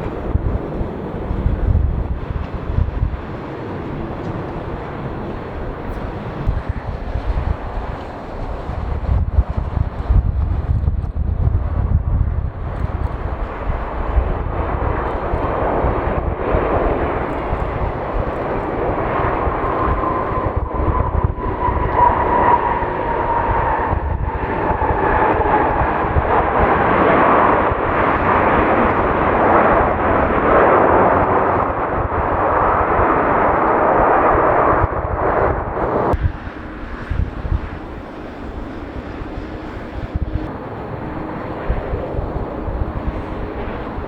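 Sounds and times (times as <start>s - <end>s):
jet airliner passing close: 0.0s - 44.0s
wind buffeting microphone: 0.0s - 44.0s.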